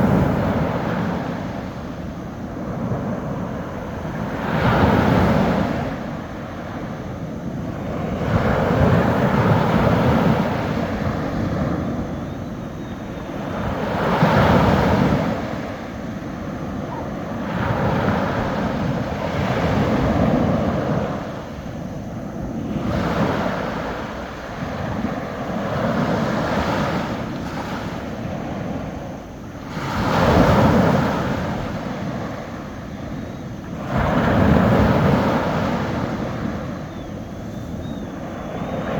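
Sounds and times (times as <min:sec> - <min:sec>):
sea waves breaking on beach: 0:00.0 - 0:38.9.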